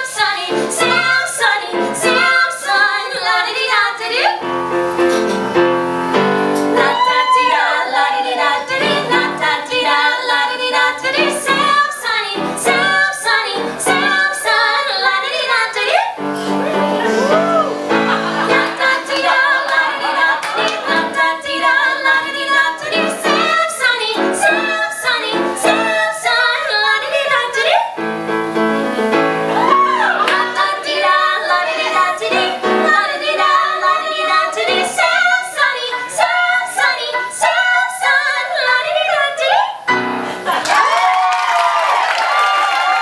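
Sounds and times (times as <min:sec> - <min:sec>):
women singing a duet: 0:00.0 - 0:04.4, 0:06.7 - 0:28.0, 0:29.6 - 0:40.5
piano accompaniment: 0:00.3 - 0:03.5, 0:04.3 - 0:37.4, 0:39.8 - 0:40.6.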